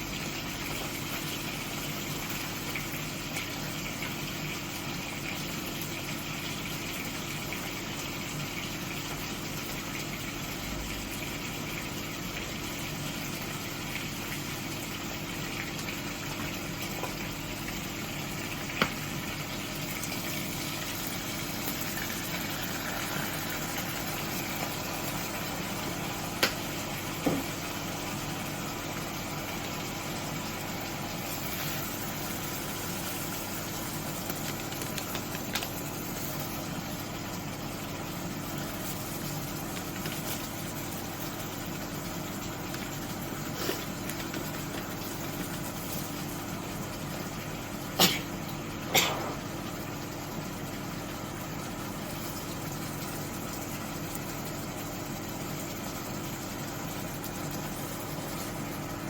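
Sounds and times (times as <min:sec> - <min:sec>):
mechanical hum with hiss: 0:00.0 - 0:59.0.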